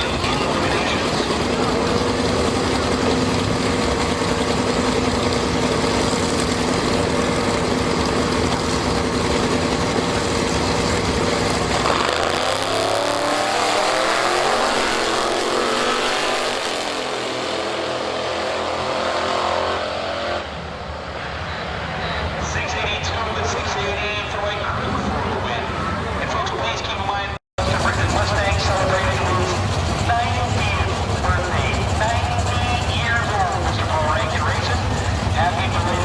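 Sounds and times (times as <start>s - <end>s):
drag racing car engine accelerating: 0.0s - 21.5s, 27.6s - 36.0s.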